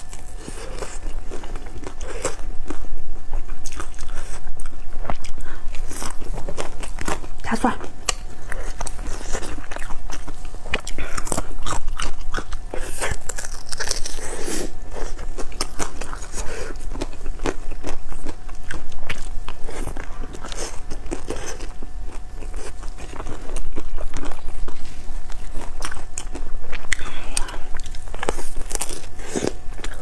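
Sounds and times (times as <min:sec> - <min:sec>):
crunching and chewing food: 0:00.0 - 0:30.0.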